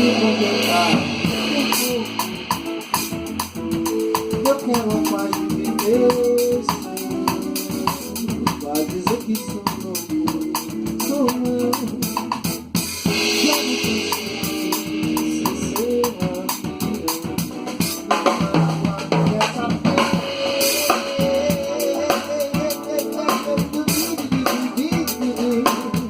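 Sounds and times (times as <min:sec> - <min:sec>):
band music: 0:00.0 - 0:26.0
drum kit beat: 0:00.0 - 0:26.0.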